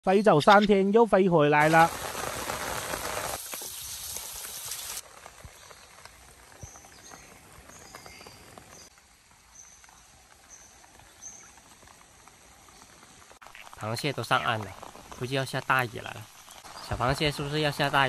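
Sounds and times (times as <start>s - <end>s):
rain hissing: 1.6s - 18.0s.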